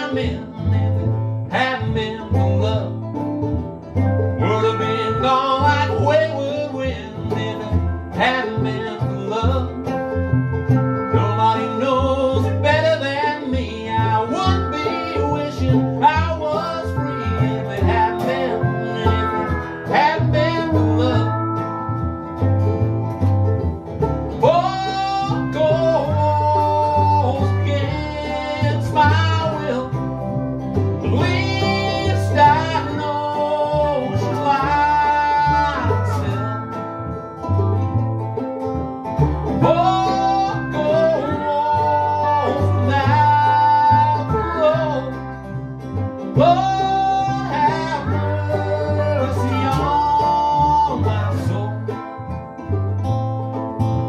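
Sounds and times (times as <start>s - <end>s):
bowed cello: 0.0s - 54.0s
guitar: 0.0s - 54.0s
pedal steel guitar melody: 0.0s - 54.0s
plucked ukulele: 0.0s - 54.0s.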